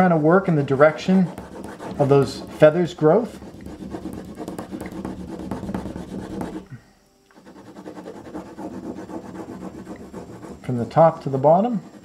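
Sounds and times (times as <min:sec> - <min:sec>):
crayon scribbling on paper: 0:00.9 - 0:06.7, 0:07.4 - 0:12.0.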